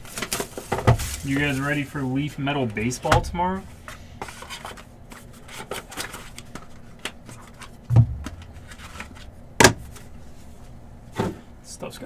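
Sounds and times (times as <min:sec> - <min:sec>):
cards rustling: 0:00.0 - 0:10.5.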